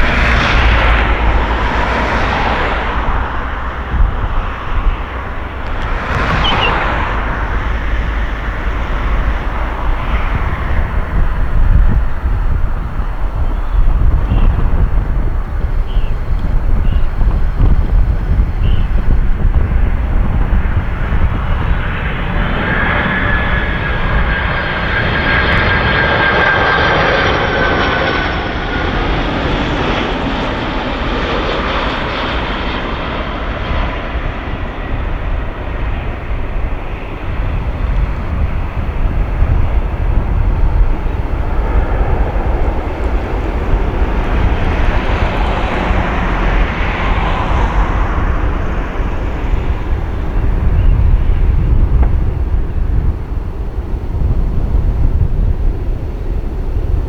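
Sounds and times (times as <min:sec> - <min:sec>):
high turbine whine: 0:00.0 - 0:57.0
jet engines roaring: 0:00.0 - 0:57.0.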